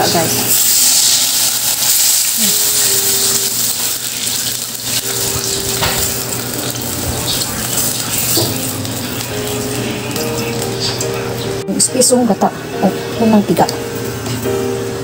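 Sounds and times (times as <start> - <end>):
liquid sizzling in hot oil: 0.0 - 12.1.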